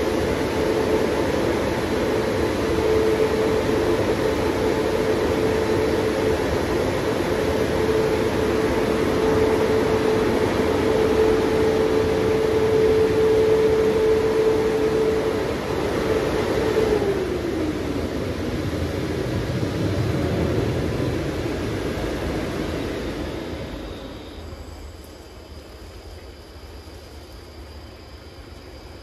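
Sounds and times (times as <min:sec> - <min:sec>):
car wash blowers running: 0:00.0 - 0:24.6.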